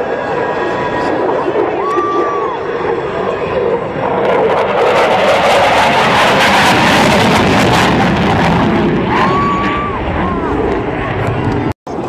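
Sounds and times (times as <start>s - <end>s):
fighter jet flying past: 0.0s - 12.0s.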